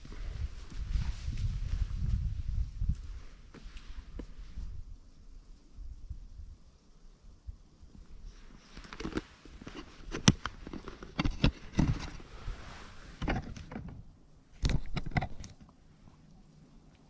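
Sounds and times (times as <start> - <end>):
rustling: 0.0 - 5.6, 8.0 - 17.0.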